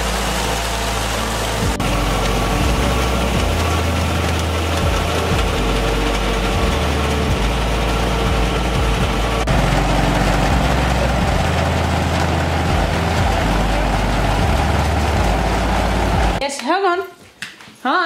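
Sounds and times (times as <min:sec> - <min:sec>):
machine engine running: 0:00.0 - 0:16.4.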